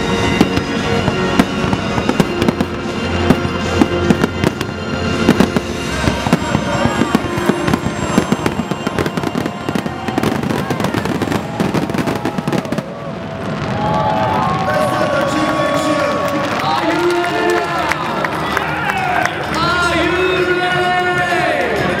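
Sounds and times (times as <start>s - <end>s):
fireworks banging and crackling: 0.0s - 22.0s
music playing: 0.0s - 22.0s.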